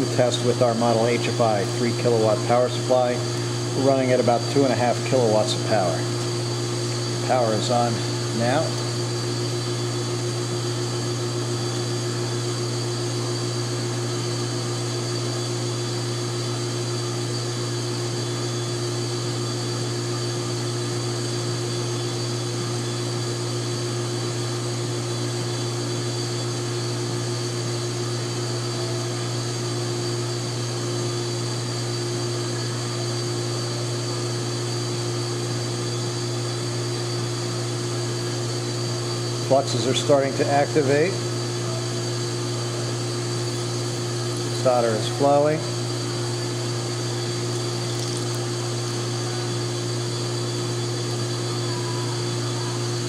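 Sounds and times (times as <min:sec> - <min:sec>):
power supply machine hum: 0:00.0 - 0:53.0.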